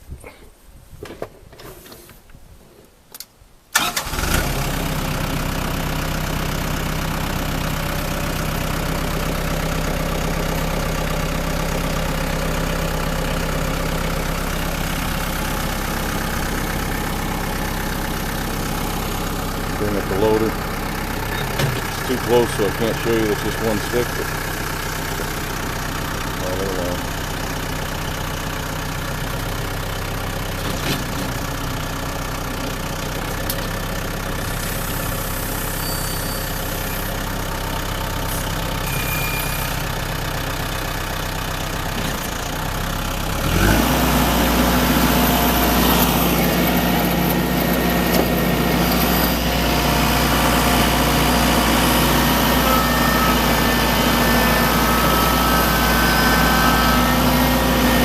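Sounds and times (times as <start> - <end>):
diesel tractor engine: 3.7 - 58.0.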